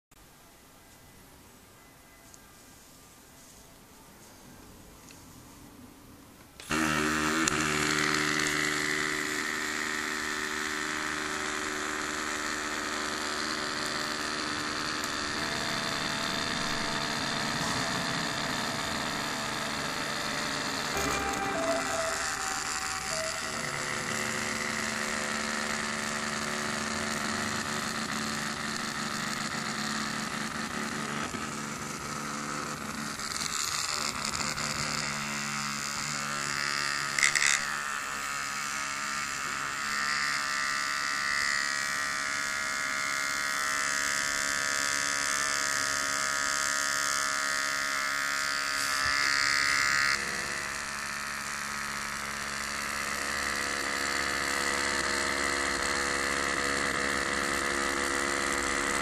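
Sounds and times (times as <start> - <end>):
small motor buzzing: 6.6 - 59.0.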